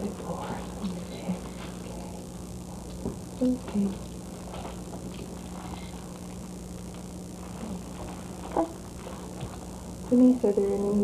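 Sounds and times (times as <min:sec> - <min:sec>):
low hum and hiss: 0:00.0 - 0:11.0
faint rustling: 0:00.2 - 0:10.4.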